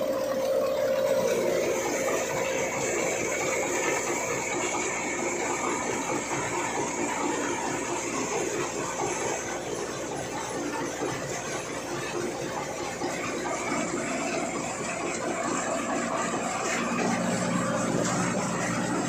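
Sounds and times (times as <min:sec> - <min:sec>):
thresher running: 0:00.0 - 0:19.0.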